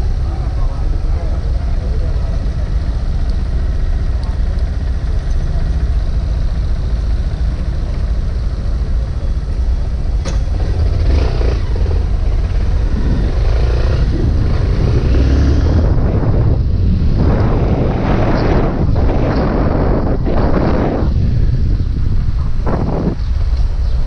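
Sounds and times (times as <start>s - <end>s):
motorcycle engine rumbling: 0.0s - 24.0s
wind rushing over microphone: 0.0s - 24.0s.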